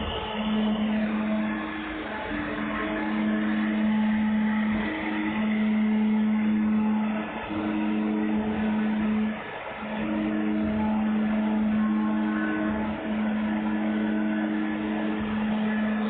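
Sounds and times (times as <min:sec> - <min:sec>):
cnc router motor hum: 0:00.0 - 0:16.0
router cutting wood: 0:00.0 - 0:16.0.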